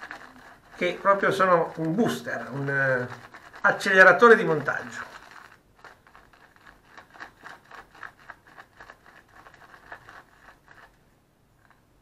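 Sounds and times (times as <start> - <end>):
shaving brush scraping lather in bowl: 0.0 - 11.0.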